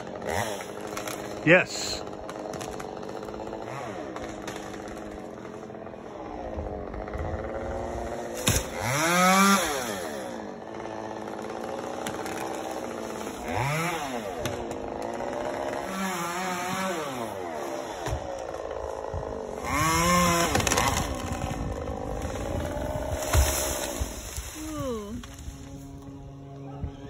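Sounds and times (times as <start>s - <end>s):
chainsaw idling and revving: 0.0s - 26.5s.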